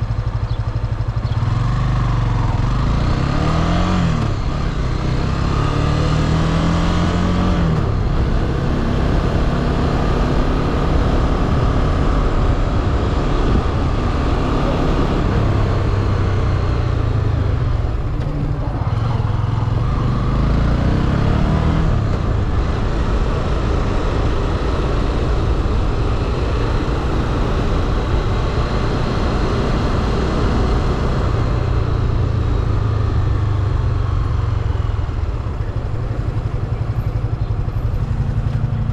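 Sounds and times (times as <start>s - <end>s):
motorcycle engine accelerating: 0.0s - 38.9s
rushing wind: 0.0s - 38.9s.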